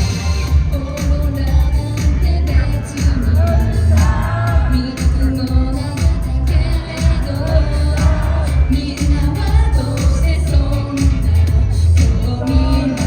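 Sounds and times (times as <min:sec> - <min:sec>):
loud beat with heavy bass: 0:00.0 - 0:13.0
person singing: 0:00.0 - 0:13.0.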